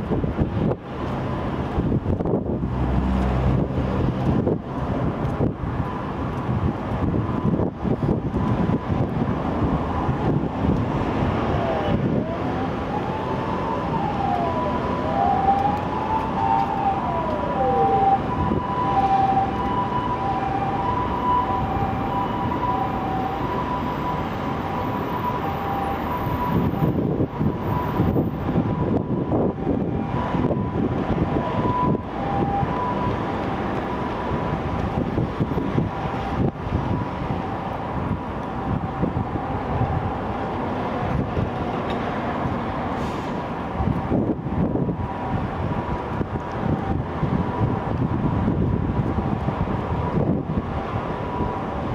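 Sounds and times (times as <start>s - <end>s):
wind buffeting microphone: 0.0s - 23.7s, 24.5s - 51.9s
city traffic noise: 0.0s - 51.9s
wailing siren: 4.7s - 41.6s, 43.4s - 51.9s
two-tone siren: 7.0s - 41.3s, 43.6s - 51.9s.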